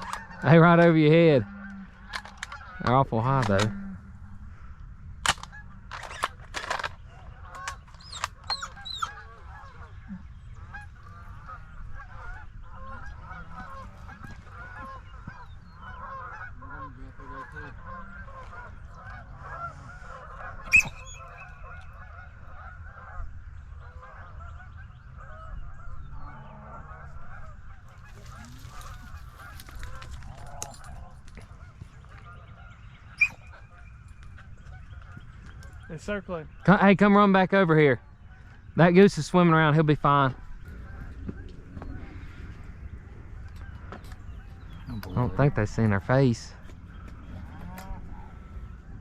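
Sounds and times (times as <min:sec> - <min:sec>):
geese honking: 0:00.0 - 0:49.0.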